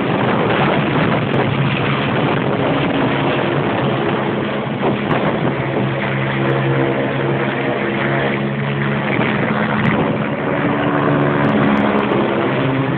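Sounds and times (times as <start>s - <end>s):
helicopter flying overhead: 0.0s - 12.9s.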